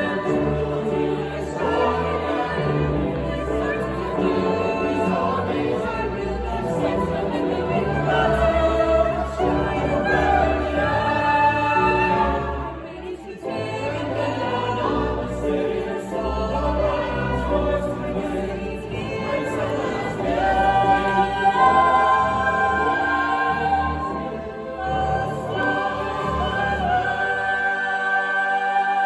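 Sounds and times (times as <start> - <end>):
group of voices singing: 0.0 - 29.0.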